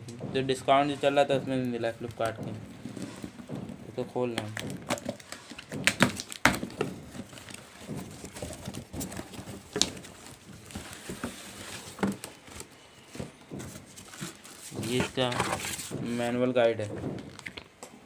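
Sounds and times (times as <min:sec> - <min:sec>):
boxes knocking together: 0:00.0 - 0:17.8
packaging rustling: 0:01.7 - 0:17.8.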